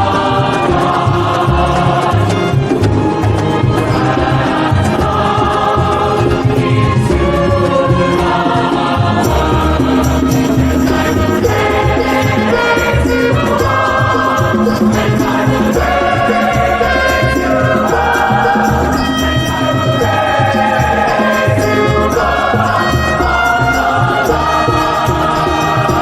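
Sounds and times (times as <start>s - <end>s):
choral singing: 0.0s - 26.0s
steady bass line: 0.0s - 26.0s.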